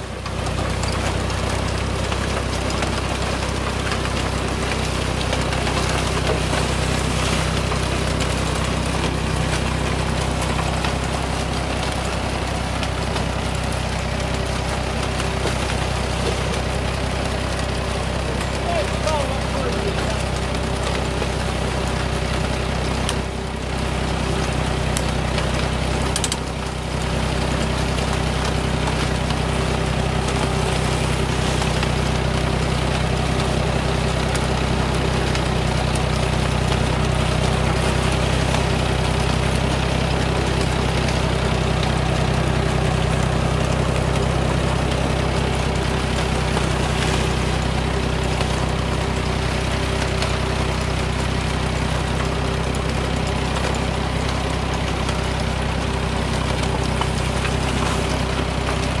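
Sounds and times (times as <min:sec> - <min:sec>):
tractor engine running: 0:00.0 - 0:59.0
binder cutting corn stalks: 0:00.1 - 0:59.0.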